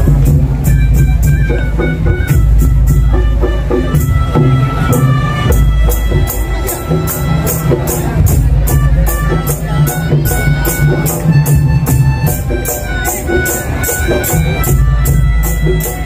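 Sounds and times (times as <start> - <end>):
heavy drums: 0.0 - 16.0
sharp percussion strikes: 0.0 - 16.0
sustained melody line: 0.0 - 16.0.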